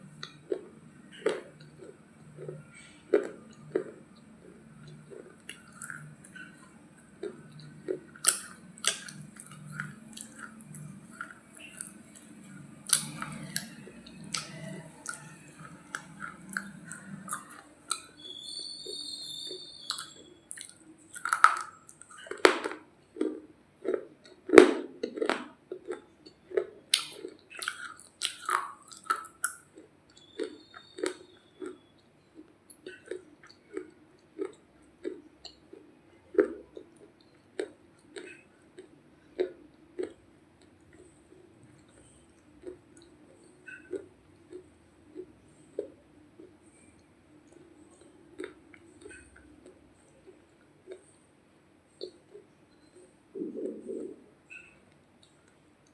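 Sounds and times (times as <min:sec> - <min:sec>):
crunchy chewing of hard bread: 0:00.0 - 0:55.9.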